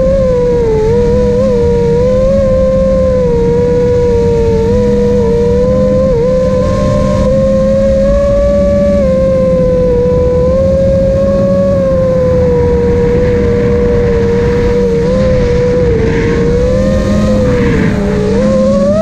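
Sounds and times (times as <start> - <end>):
drone motors whining: 0.0 - 19.0
prop wash and wind noise: 0.0 - 19.0.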